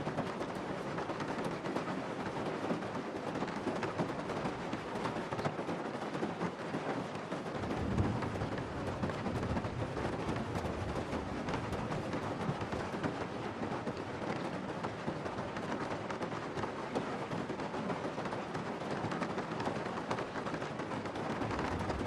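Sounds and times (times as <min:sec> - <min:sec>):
heavy rain on car roof: 0:00.0 - 0:22.0.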